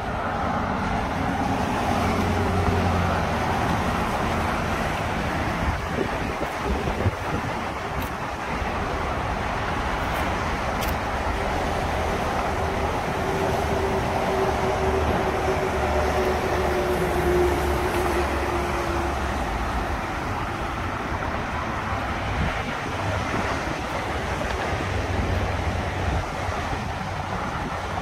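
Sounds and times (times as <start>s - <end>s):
road traffic rumble: 0.0s - 28.0s
wind buffeting microphone: 0.0s - 28.0s.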